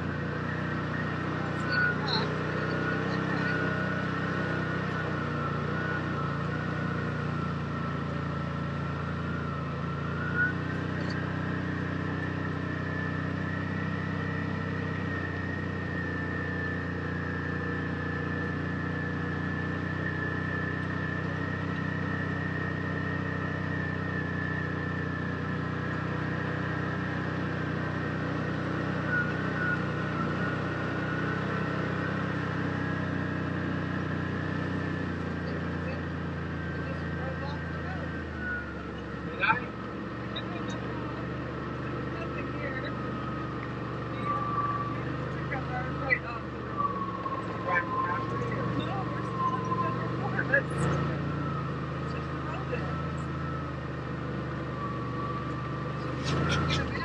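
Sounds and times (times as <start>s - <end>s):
utility vehicle engine running: 0.0s - 57.0s.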